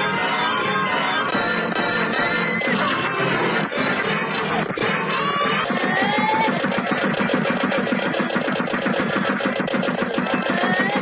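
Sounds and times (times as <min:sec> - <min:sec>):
machine-like pulsing: 0:00.0 - 0:11.0.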